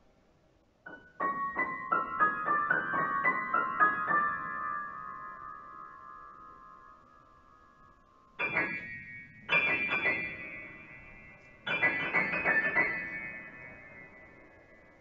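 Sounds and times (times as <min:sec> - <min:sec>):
grand piano notes: 0:00.9 - 0:15.0.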